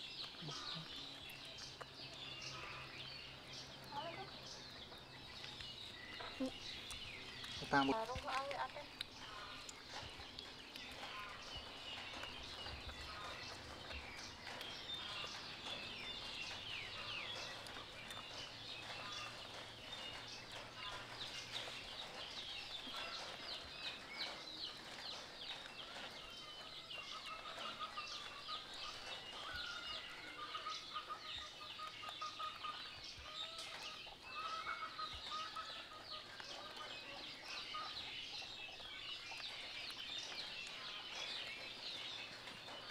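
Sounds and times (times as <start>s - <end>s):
birds chirping and clucking: 0.0s - 42.9s.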